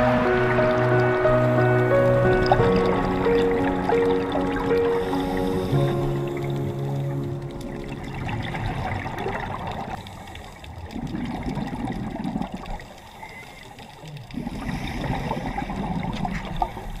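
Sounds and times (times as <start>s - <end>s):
underwater regulator bubbling: 0.0s - 16.9s.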